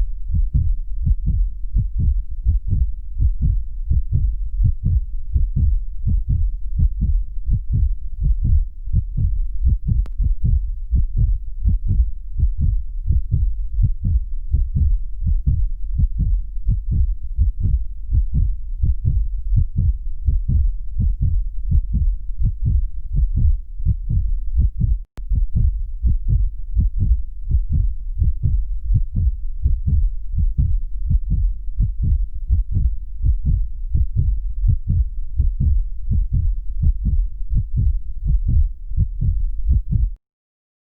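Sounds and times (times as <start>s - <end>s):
heartbeat: 0.0s - 40.2s
low rumble: 0.0s - 40.2s.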